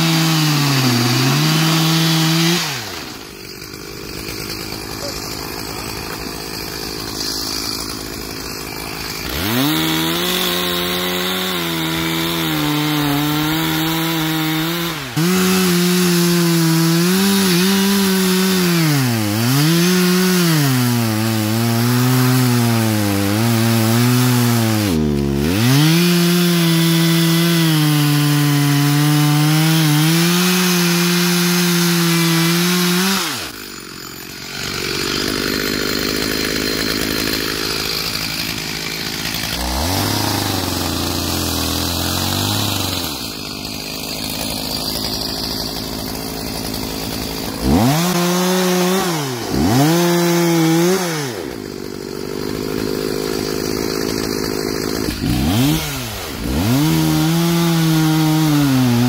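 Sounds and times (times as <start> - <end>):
chainsaw cutting wood: 0.0 - 59.0
chainsaw idling: 0.0 - 59.0.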